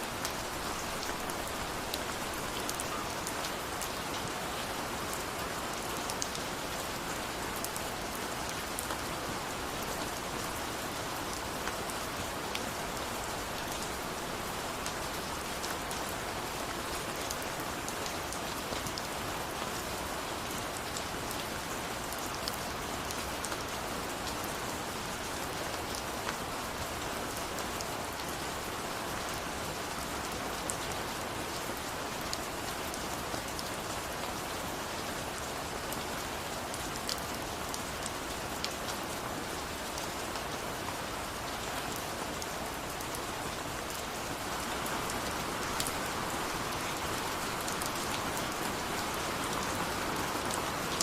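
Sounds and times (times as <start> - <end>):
steady rainfall hiss: 0.0 - 51.0.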